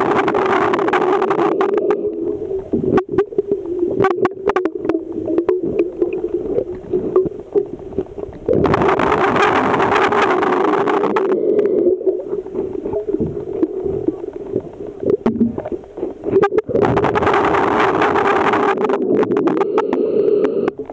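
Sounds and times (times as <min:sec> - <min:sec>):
muffled underwater hum: 0:00.0 - 0:20.9
underwater rushing noise: 0:00.0 - 0:20.9.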